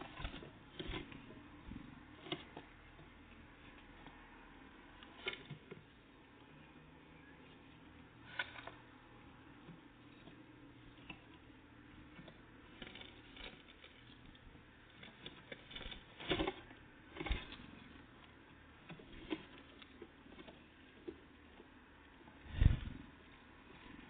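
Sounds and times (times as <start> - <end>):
birds pecking at a feeder: 0.0 - 24.0.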